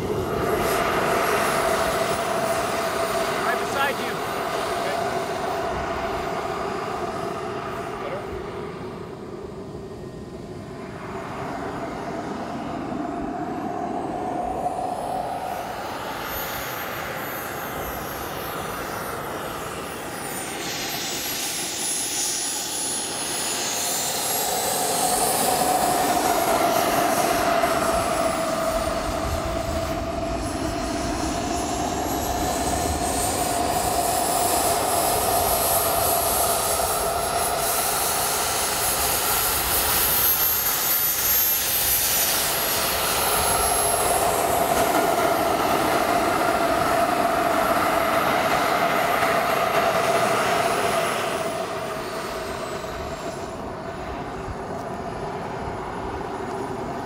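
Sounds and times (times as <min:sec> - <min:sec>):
model jet turbine whine: 0:00.0 - 0:57.0
steady rushing tone: 0:00.0 - 0:57.0.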